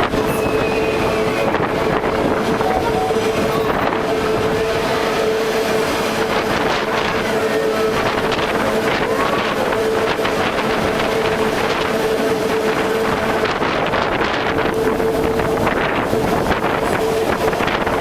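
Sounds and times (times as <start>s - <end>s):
steady train whine: 0.0s - 18.0s
train rumble and rattle: 0.0s - 18.0s.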